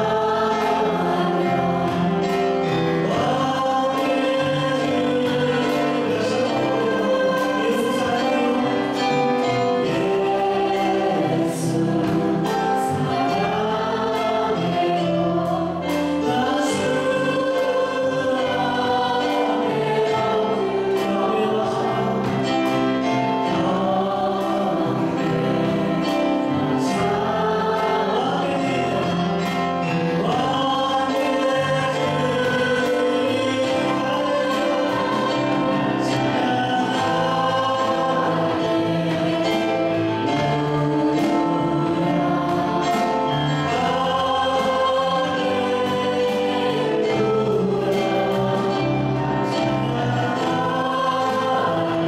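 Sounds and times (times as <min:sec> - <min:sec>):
worship song through microphones: 0:00.0 - 0:52.0.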